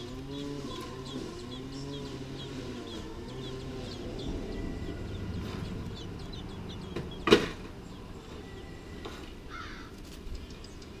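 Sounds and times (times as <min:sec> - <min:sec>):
faint high bird chirps: 0:00.0 - 0:11.0.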